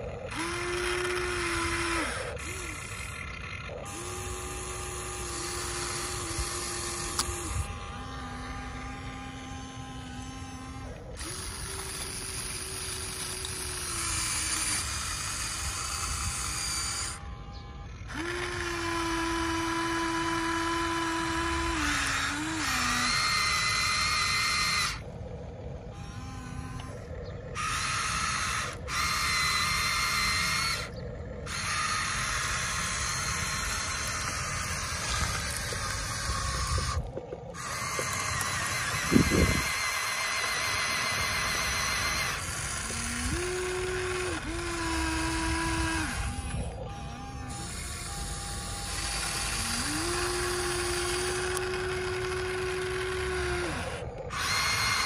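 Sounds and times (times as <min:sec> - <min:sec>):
electric motors whining: 0:00.0 - 0:55.0.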